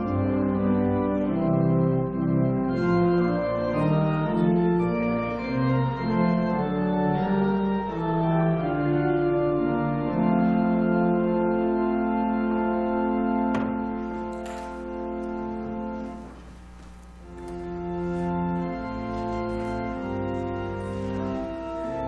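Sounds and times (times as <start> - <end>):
organ playing chords: 0.0 - 22.0.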